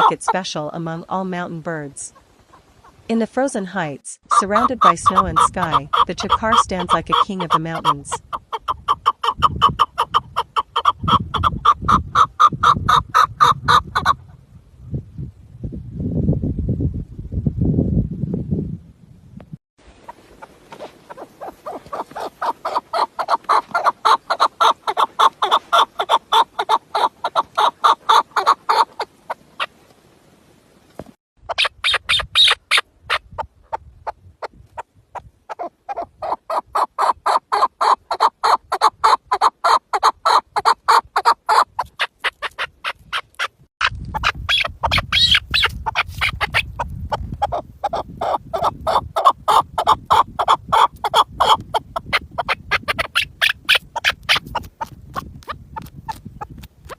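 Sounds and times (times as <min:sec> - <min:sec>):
partridge clucking calls: 0:00.0 - 0:00.6, 0:04.2 - 0:14.2, 0:20.0 - 0:29.7, 0:31.4 - 0:56.9.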